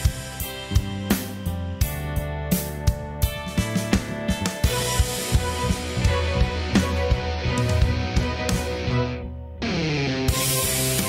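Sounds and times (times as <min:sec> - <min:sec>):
band playing held chords: 0:00.0 - 0:11.0.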